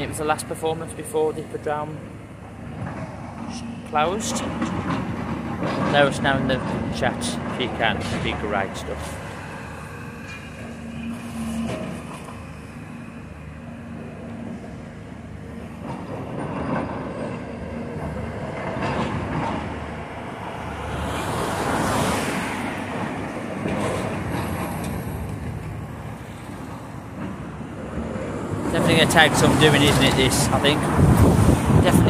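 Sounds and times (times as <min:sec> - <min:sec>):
vehicle engines running: 0:00.0 - 0:32.0.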